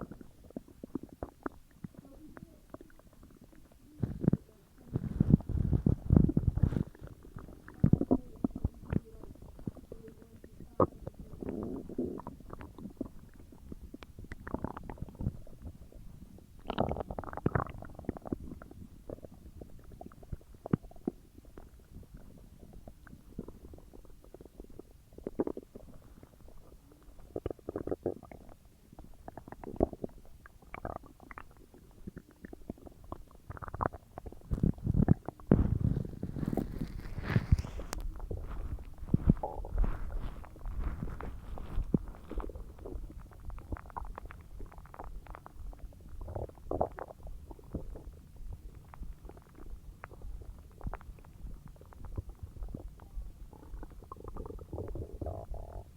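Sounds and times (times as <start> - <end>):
stomach gurgling: 0.0 - 55.9.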